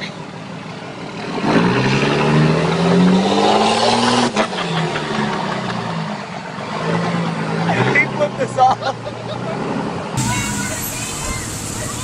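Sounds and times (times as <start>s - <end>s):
diesel engine revving hard: 1.1s - 8.6s, 9.4s - 12.0s.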